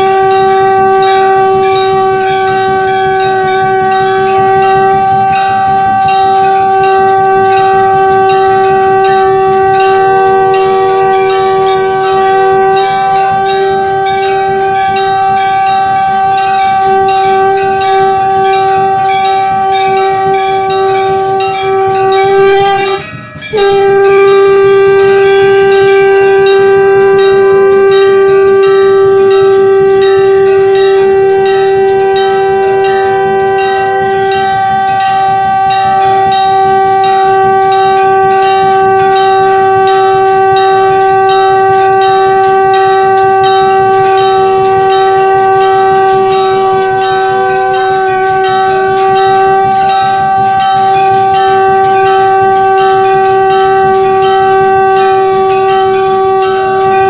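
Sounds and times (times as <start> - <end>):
conch shell blown: 0.0 - 57.0
faint temple bells ringing: 0.0 - 57.0.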